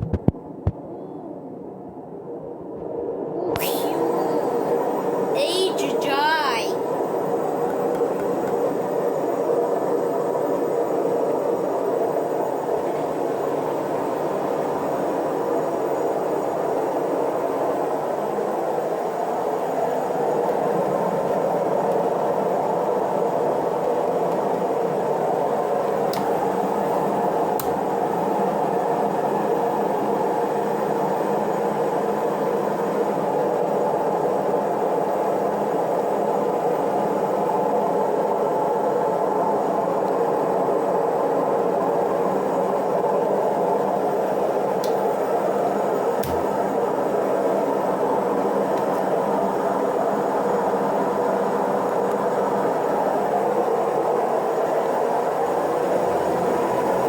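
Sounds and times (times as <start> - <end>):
washing machine spinning: 7.0 - 57.0.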